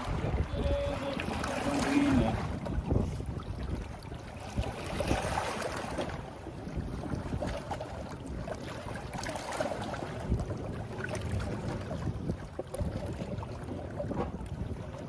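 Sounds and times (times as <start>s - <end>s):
water at the shore: 0.0s - 15.0s
wind rumbling on microphone: 0.0s - 15.0s.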